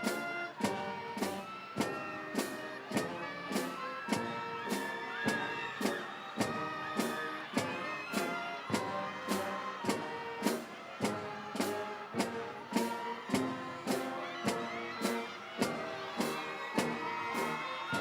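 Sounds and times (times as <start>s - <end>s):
instrumental music with beat: 0.0s - 18.0s.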